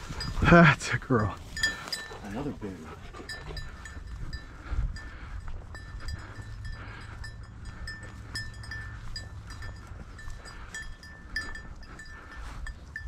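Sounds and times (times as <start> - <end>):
dog collar bell jingling: 1.4 - 13.0.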